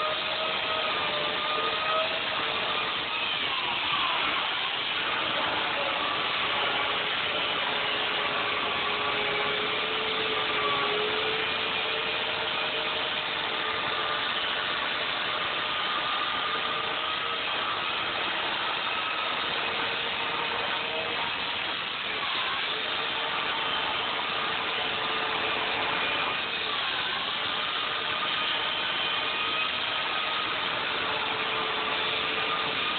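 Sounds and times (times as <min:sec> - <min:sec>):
electric chainsaw cutting foam: 0:00.0 - 0:32.9.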